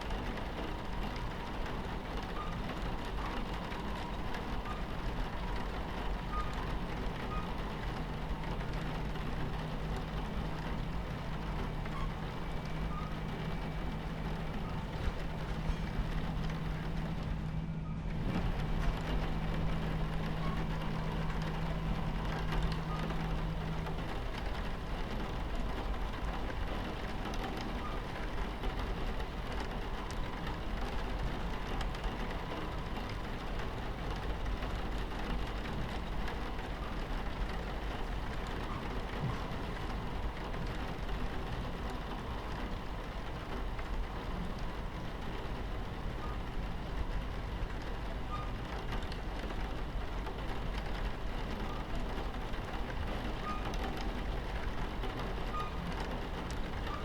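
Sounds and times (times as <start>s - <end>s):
moving train rumble: 0.0s - 57.0s
rain on a train window: 0.0s - 57.0s.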